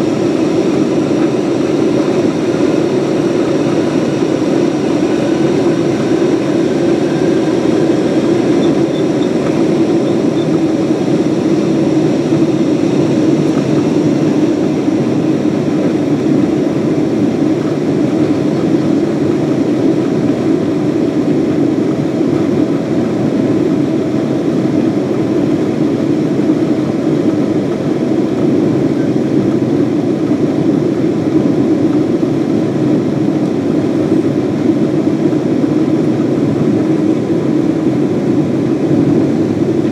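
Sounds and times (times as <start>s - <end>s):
jet engine roar in cabin: 0.0s - 39.9s.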